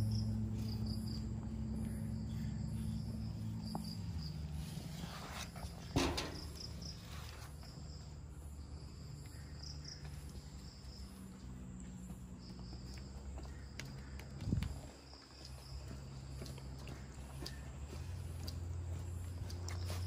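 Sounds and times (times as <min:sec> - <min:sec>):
insects chirping: 0:00.0 - 0:20.0
steady low hum: 0:00.0 - 0:20.0.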